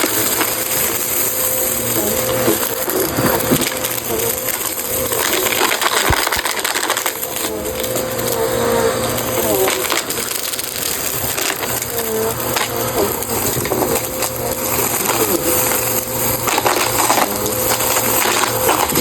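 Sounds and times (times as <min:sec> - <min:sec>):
debris clicking inside machine: 0:00.0 - 0:19.0
debris rattling inside vacuum: 0:00.0 - 0:19.0
upright vacuum running: 0:00.0 - 0:19.0.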